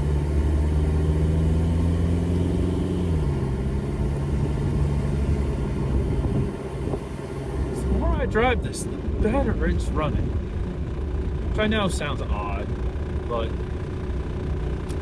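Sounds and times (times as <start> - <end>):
diesel engine running while driving: 0.0 - 15.0.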